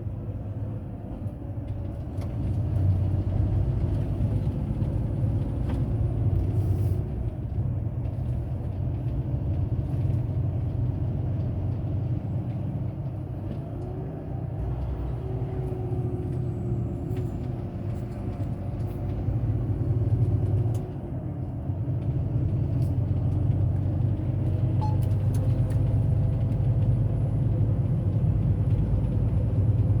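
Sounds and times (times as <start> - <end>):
road rumble: 0.0 - 30.0
truck engine drone: 0.0 - 30.0.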